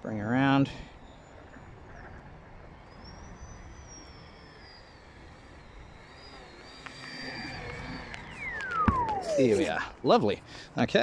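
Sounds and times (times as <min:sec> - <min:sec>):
low wind noise: 0:00.0 - 0:11.0
model plane motor whine: 0:00.6 - 0:10.7.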